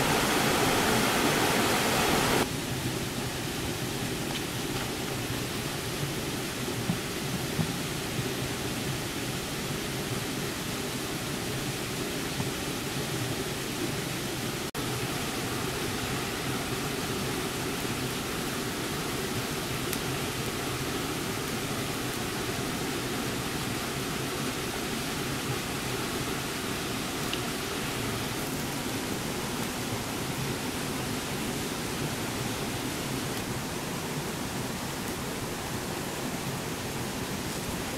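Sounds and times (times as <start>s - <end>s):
steady rushing hiss: 0.0s - 37.9s.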